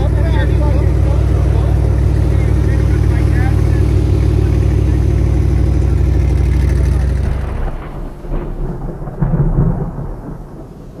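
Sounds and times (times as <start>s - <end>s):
vehicle engine drone: 0.0s - 9.5s.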